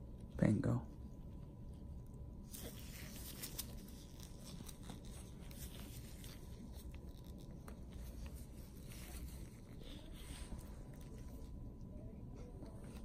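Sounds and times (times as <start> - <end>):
soft rustling of gauze: 1.0 - 13.0.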